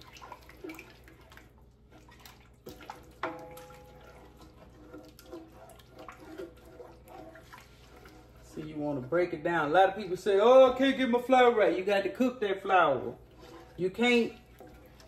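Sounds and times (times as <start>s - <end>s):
gravy simmering in a skillet: 0.0s - 15.0s.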